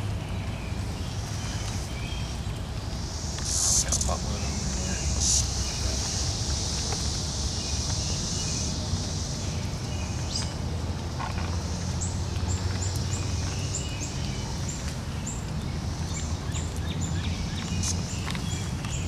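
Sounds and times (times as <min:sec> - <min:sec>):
cicada buzz: 0:00.0 - 0:19.0.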